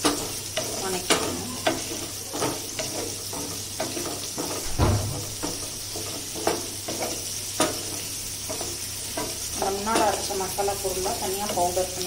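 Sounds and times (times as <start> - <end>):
onions sizzling in oil: 0.0 - 12.0
spatula scraping and knocking pan: 0.0 - 12.0.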